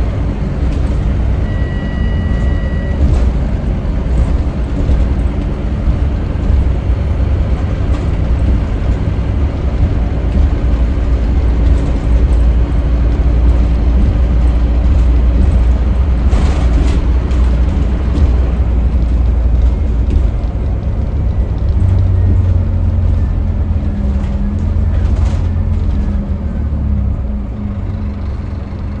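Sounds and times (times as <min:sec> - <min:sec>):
bus engine rumble: 0:00.0 - 0:29.0
road noise: 0:00.0 - 0:29.0.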